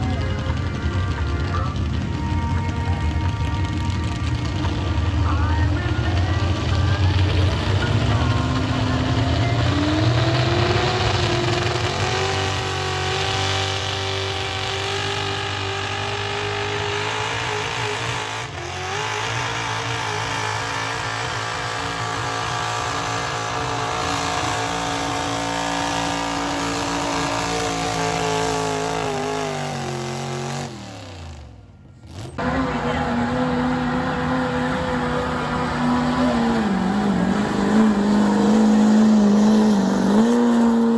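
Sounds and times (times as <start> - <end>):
tractor engine at full throttle: 0.0 - 40.9.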